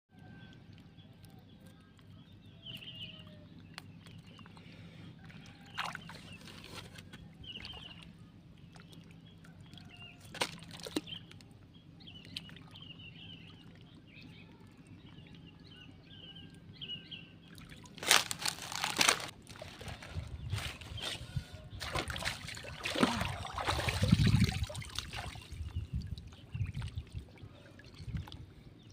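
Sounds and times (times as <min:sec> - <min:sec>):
low hum: 0:00.1 - 0:28.9
water sloshing and splashing: 0:03.6 - 0:28.9.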